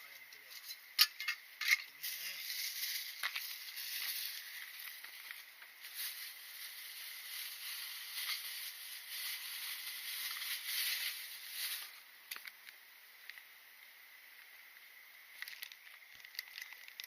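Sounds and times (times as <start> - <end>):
wood fire hissing and crackling: 0.0 - 17.0.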